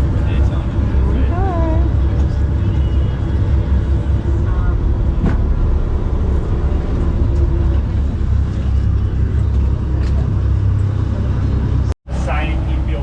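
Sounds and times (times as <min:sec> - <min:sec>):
water noise: 0:00.0 - 0:12.9
boat engine droning: 0:00.0 - 0:13.0.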